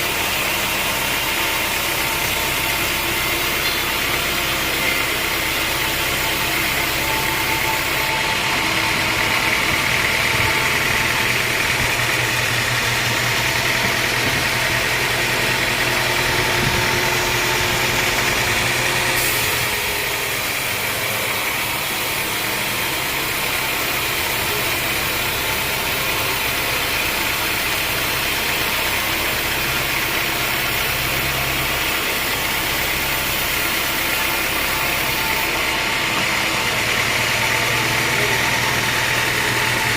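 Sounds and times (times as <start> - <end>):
band saw running: 0.0 - 39.9
engine drone: 0.0 - 39.9.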